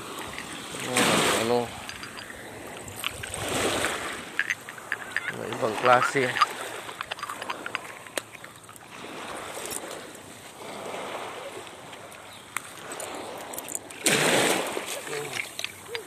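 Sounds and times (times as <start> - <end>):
small waves washing on shore: 0.0 - 16.0.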